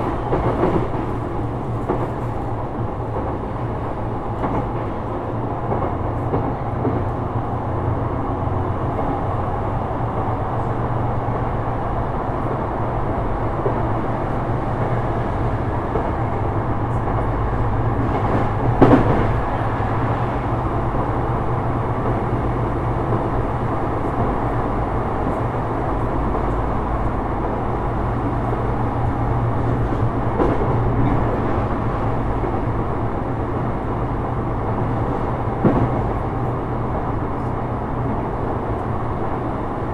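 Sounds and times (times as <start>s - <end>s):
clacks over rail joints: 0.0s - 7.6s, 13.6s - 39.4s
train wheels rumbling on rail: 0.0s - 39.9s.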